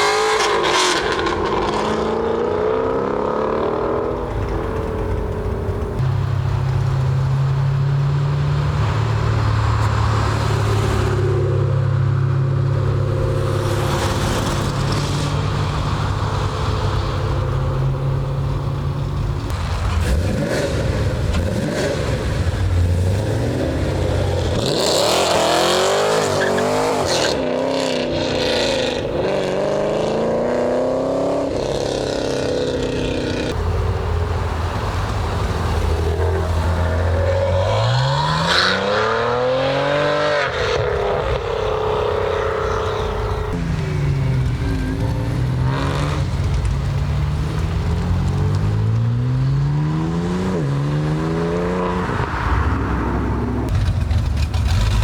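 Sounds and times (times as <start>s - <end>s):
car engines idling: 0.0s - 27.2s, 31.5s - 55.0s
cars revving and accelerating: 0.0s - 55.0s.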